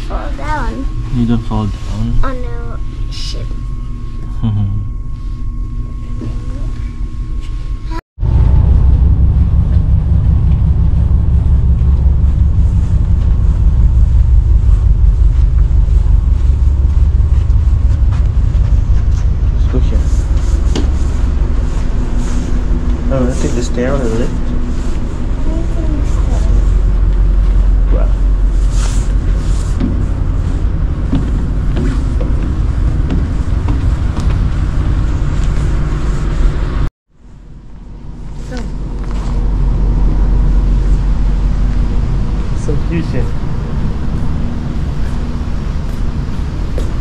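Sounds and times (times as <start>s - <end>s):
ship low rumble: 0.0s - 47.0s.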